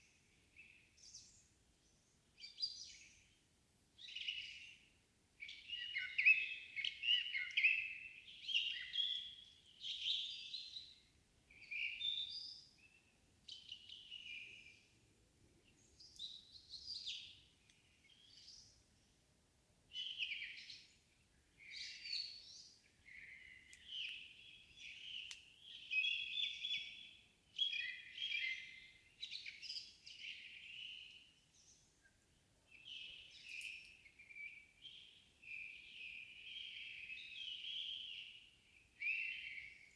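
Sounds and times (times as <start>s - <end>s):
songbirds singing: 0.0s - 19.2s, 19.8s - 39.9s.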